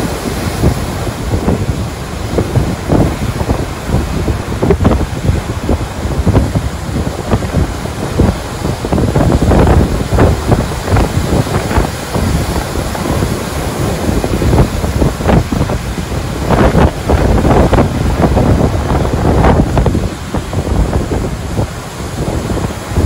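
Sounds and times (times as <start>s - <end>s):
roar of churning whitewater: 0.0s - 23.0s
waves crashing on breakwater: 0.0s - 23.0s
wind buffeting microphone: 0.0s - 23.0s.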